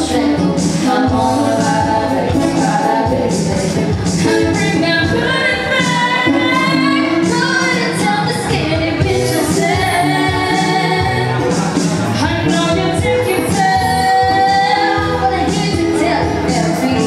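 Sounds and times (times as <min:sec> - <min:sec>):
acoustic guitar: 0:00.0 - 0:17.0
woman singing pop song: 0:00.0 - 0:17.0.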